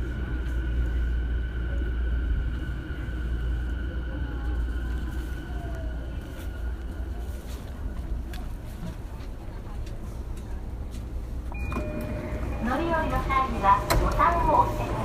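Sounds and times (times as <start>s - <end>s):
electric train rumble: 0.0s - 15.0s
high whine of train: 0.0s - 15.0s.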